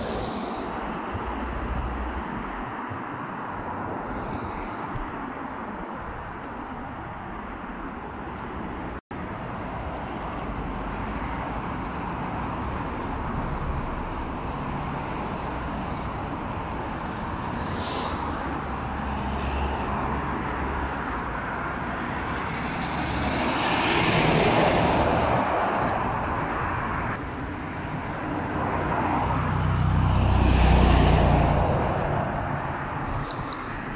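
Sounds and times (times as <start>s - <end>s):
road traffic passing: 0.0s - 33.9s.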